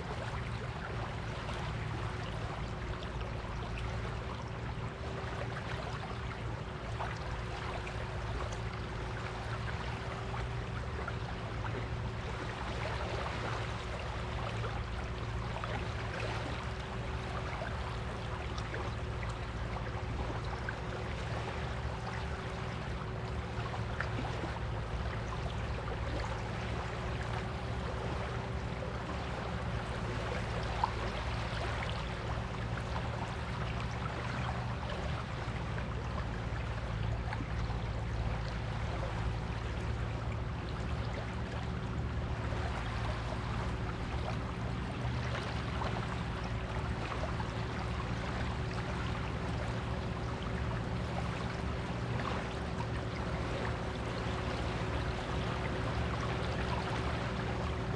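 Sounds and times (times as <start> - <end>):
faint steady hum: 0.0 - 57.9
small waves washing on beach: 0.0 - 57.9.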